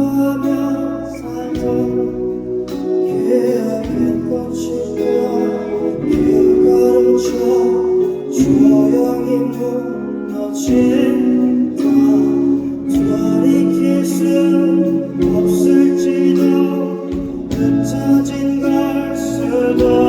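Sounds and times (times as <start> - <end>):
live band playing pop ballad: 0.0 - 20.0
person singing: 0.0 - 20.0.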